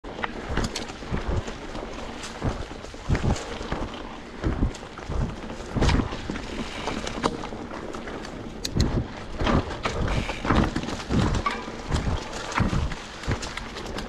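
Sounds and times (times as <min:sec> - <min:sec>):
bike tyres rolling on dirt: 0:00.0 - 0:14.0
bike thumping and rattling: 0:00.1 - 0:14.0
wind on microphone: 0:00.2 - 0:14.0.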